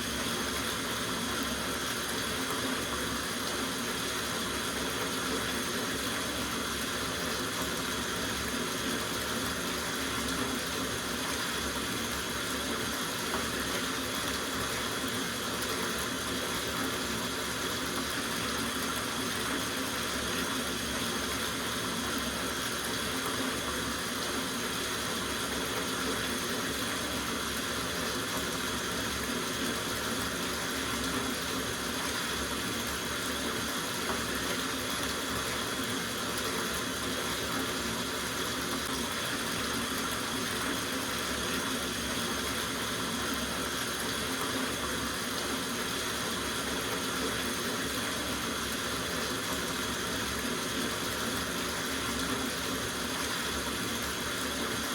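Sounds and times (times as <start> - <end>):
tap water running into bathtub: 0.0 - 54.9.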